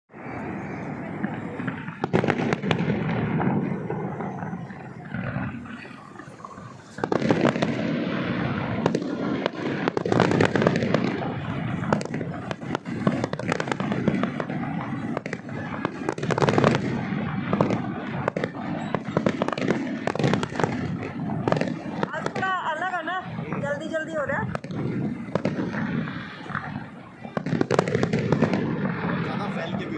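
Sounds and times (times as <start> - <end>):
fireworks bangs and crackles: 0.1 - 29.9.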